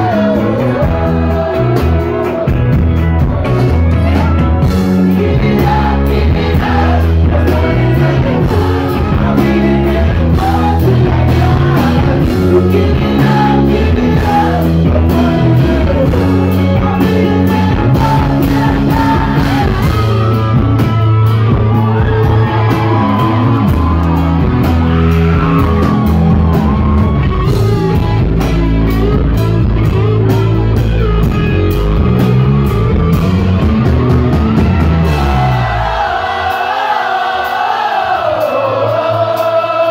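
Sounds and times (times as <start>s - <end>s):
electric guitar: 0.0s - 36.1s
bass guitar: 0.0s - 39.9s
drums: 0.0s - 39.9s
lead singer: 0.0s - 39.9s.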